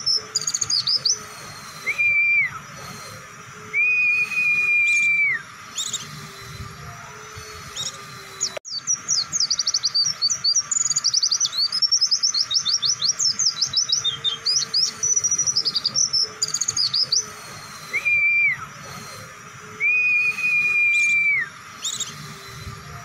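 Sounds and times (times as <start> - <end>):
bird twittering song: 0.0 - 23.0
long whistled bird note: 0.0 - 23.0.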